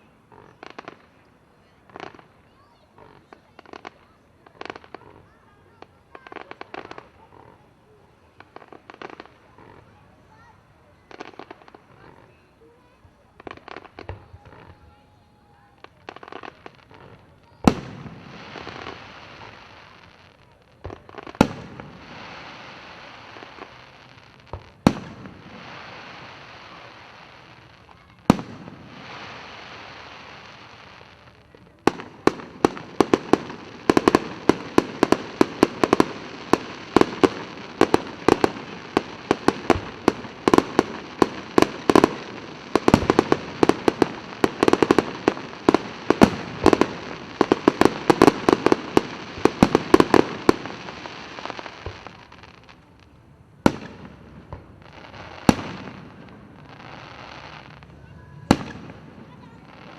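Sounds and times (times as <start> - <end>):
fireworks bangs: 0.0 - 59.9
fireworks crackling hiss: 0.0 - 59.9.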